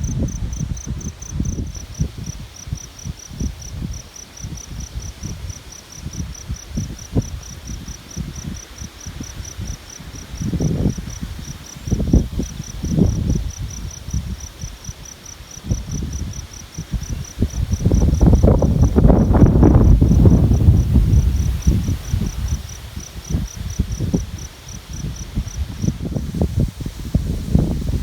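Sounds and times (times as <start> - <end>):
cricket chirping: 0.0 - 28.0
wind buffeting microphone: 0.0 - 28.0.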